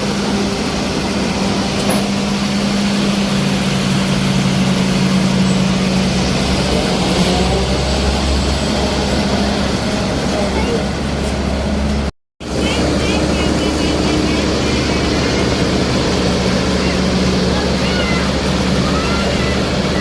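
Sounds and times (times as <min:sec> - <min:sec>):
combine harvester engine drone: 0:00.0 - 0:20.0.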